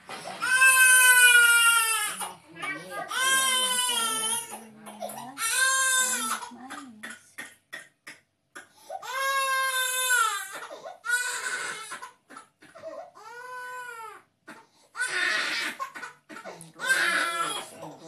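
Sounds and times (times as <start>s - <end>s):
baby crying: 0.4s - 7.1s, 8.9s - 17.8s.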